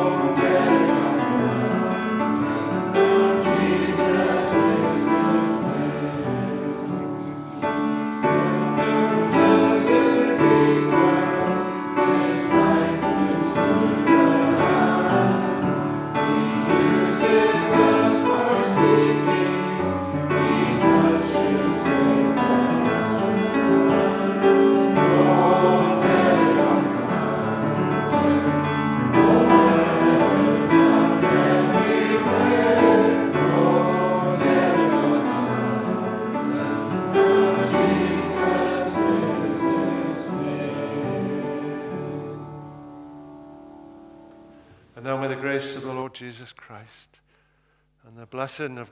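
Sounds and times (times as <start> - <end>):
voices singing a hymn: 0.0 - 43.7.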